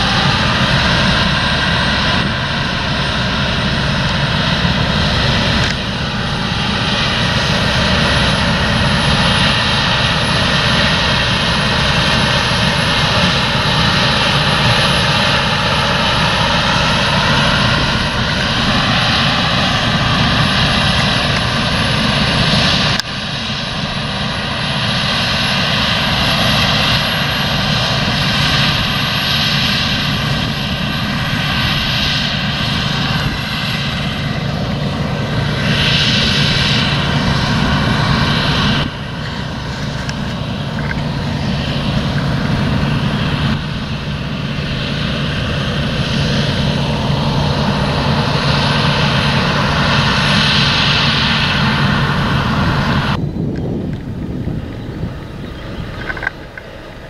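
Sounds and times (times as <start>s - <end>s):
combine harvester engine drone: 0.0s - 57.0s
high steady whine: 0.0s - 57.0s.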